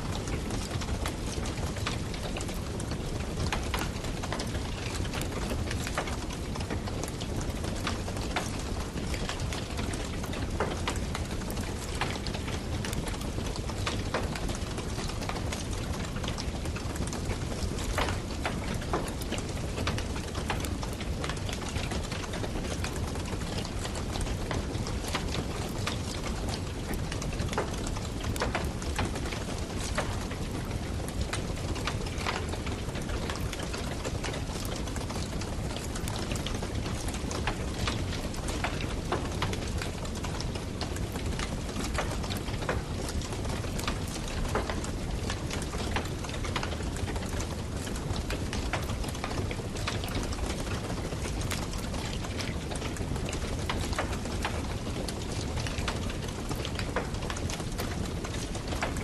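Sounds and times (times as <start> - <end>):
campfire burning: 0.0 - 59.0
wood crackling and popping: 0.0 - 59.0.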